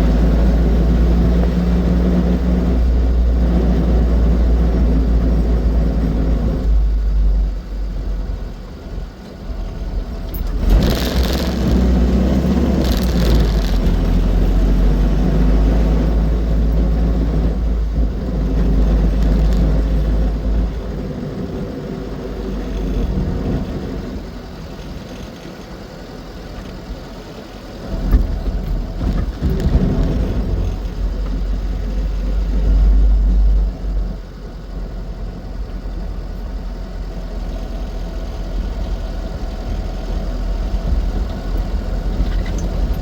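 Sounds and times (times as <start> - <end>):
car engine rumbling: 0.0 - 43.0.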